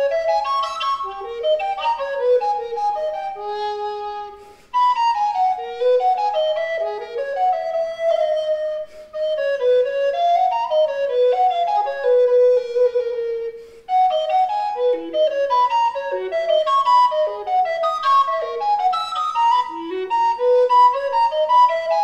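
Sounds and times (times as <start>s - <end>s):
recorder melody: 0.0s - 22.0s.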